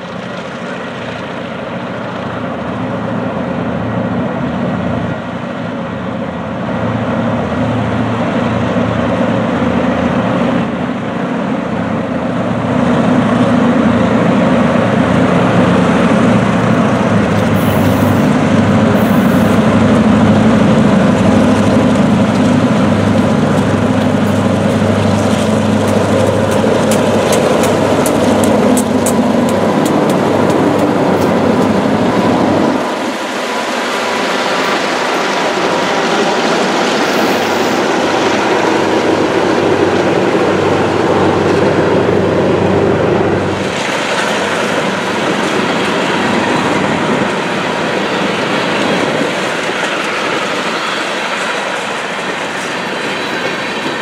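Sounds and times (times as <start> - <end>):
diesel locomotives hauling freight: 0.0 - 54.0
rapid clicks of passing train: 0.0 - 54.0.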